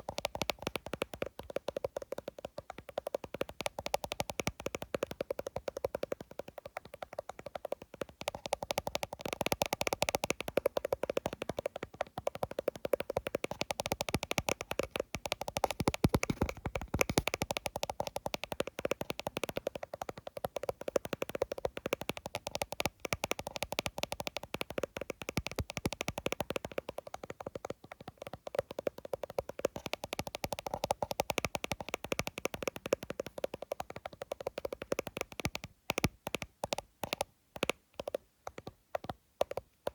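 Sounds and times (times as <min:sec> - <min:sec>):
fingers tapping on phone screen: 0:00.0 - 0:39.9.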